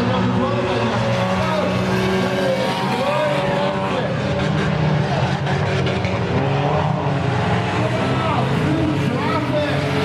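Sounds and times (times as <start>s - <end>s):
race car engines passing: 0.0s - 10.0s.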